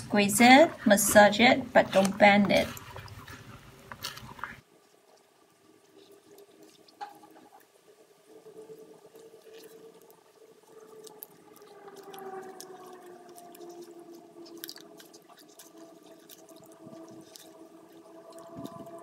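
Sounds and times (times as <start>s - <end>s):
thick liquid sloshing and squishing: 0.0s - 7.7s, 8.3s - 19.0s.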